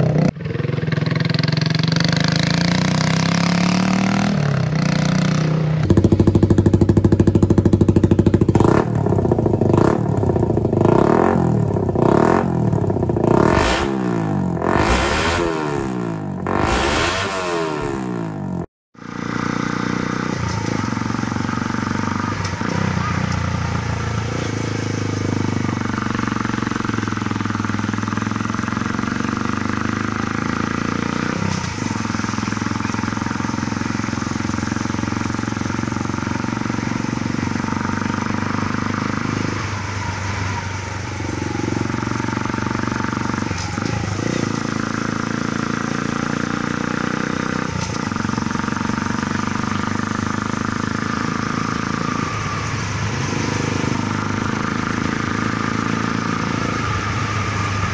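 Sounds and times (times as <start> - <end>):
motorcycle engine pulling under load: 0.0 - 57.9.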